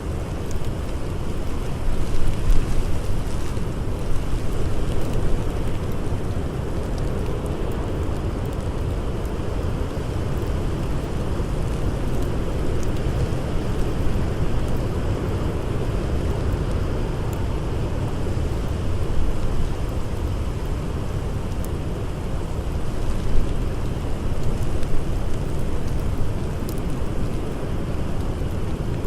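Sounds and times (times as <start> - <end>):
blizzard wind: 0.0 - 29.0
wood fire crackling: 0.0 - 29.0.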